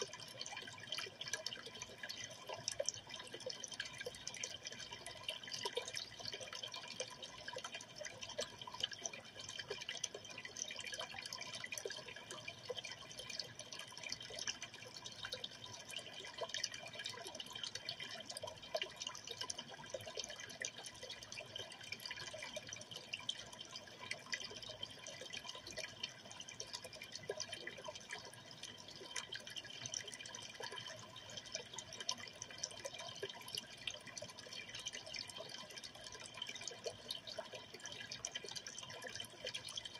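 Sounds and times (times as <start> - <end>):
aquarium water trickling: 0.0 - 39.9
small drips and pops: 0.0 - 39.9.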